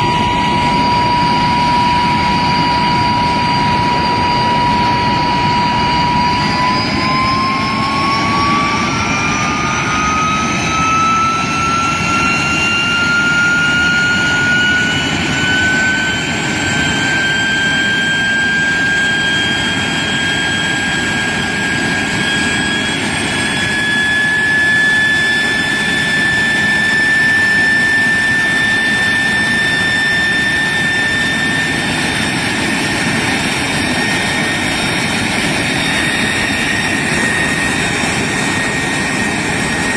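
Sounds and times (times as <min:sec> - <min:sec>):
jet engine roar and whine: 0:00.0 - 0:39.9.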